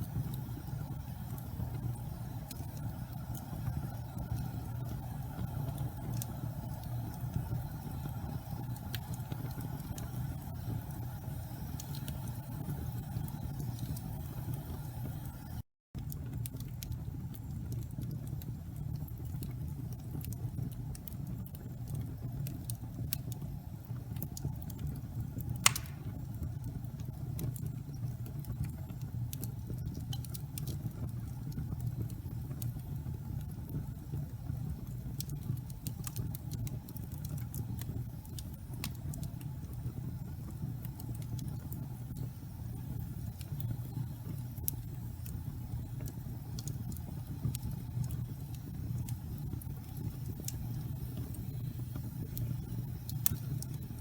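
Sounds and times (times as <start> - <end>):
fire crackling and popping: 0.0 - 54.0
fire rumbling in fireplace: 0.0 - 54.0.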